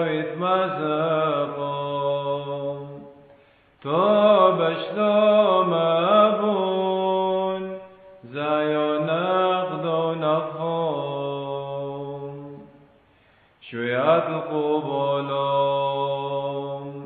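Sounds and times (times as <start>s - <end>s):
man chanting a hymn: 0.0s - 3.2s, 3.8s - 12.8s, 13.6s - 17.0s.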